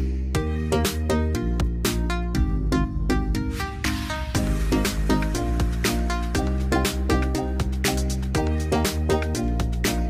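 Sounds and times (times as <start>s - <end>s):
upbeat music with beat and bass: 0.0s - 10.0s.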